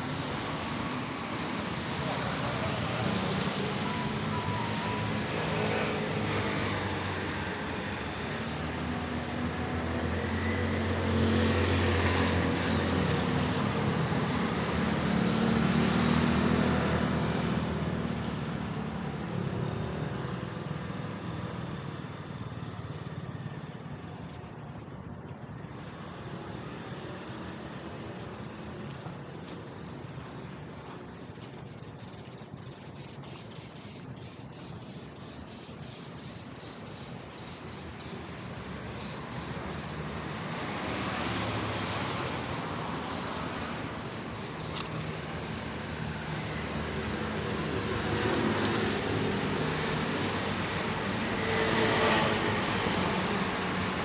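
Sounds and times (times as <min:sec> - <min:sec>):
vehicle engine and tyre noise passing: 0:00.0 - 0:31.2, 0:36.4 - 0:54.0.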